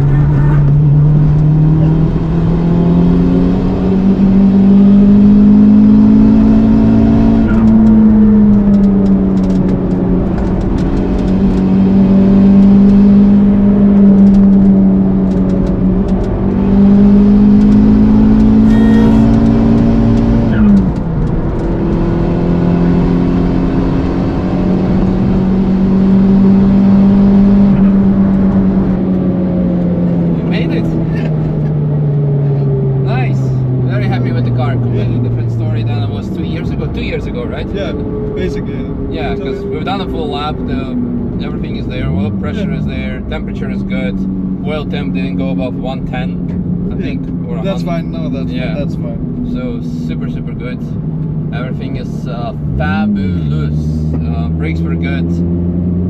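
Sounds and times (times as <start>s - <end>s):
car engine under load: 0.0s - 56.0s.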